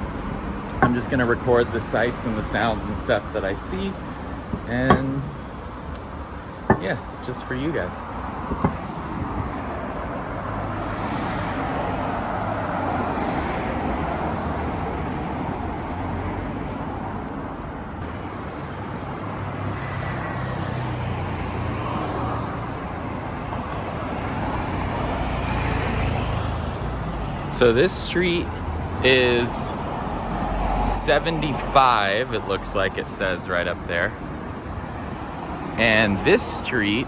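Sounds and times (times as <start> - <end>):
cars passing on a street: 0.0 - 37.0.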